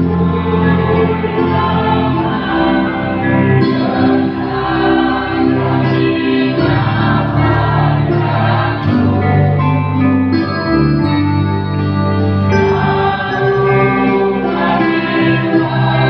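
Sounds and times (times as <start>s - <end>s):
bass guitar low notes: 0.0s - 16.0s
choir singing in harmony: 0.0s - 16.0s.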